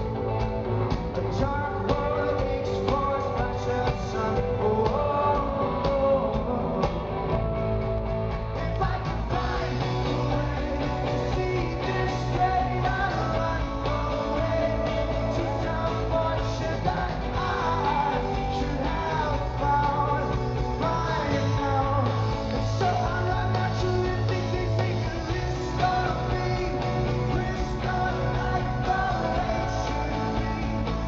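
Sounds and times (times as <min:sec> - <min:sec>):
rock band playing live: 0:00.0 - 0:31.0
person singing: 0:01.2 - 0:31.0.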